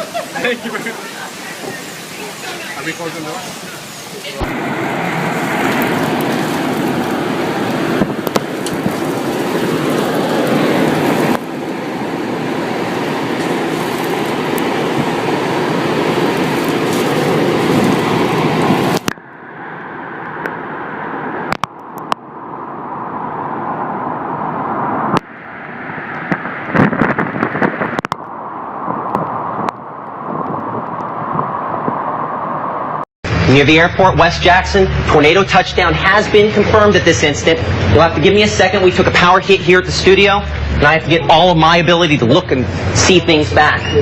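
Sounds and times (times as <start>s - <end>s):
storm wind roaring: 0.0s - 44.0s.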